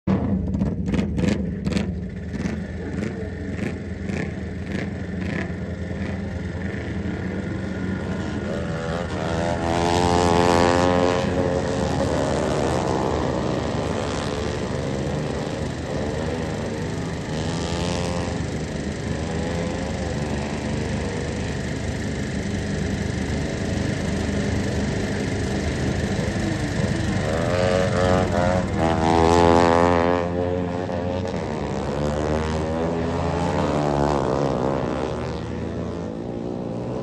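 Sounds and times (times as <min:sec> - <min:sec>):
lawn mower engines running: 0:00.1 - 0:37.0.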